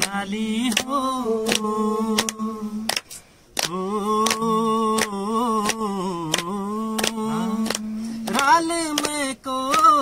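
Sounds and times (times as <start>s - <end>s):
man singing unaccompanied: 0.0s - 3.0s, 3.6s - 10.0s
hand claps: 0.0s - 10.0s.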